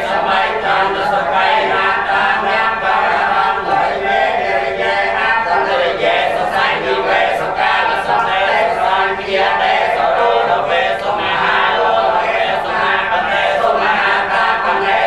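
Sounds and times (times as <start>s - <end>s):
monks chanting in unison: 0.0s - 15.0s.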